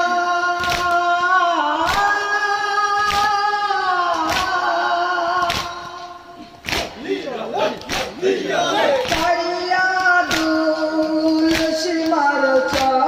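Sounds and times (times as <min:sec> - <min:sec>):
person singing a lament: 0:00.0 - 0:13.0
rhythmic chest-beating: 0:00.0 - 0:13.0.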